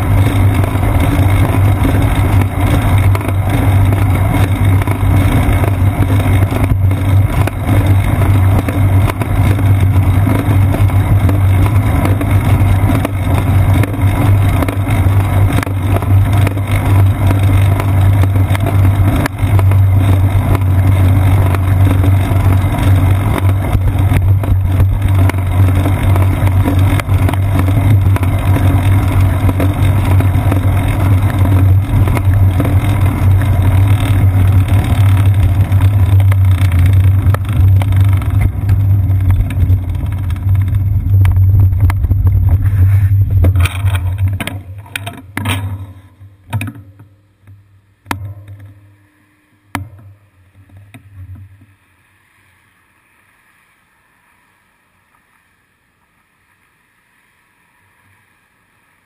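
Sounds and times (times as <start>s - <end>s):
wind and road rumble: 0.0s - 48.9s.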